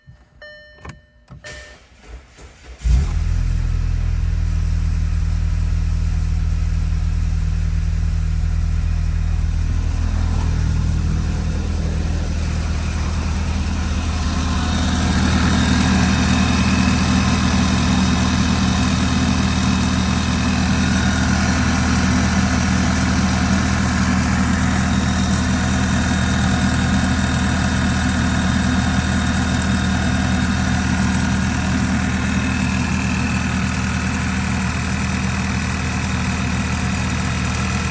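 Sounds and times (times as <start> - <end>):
car engine idling: 2.0 - 37.9.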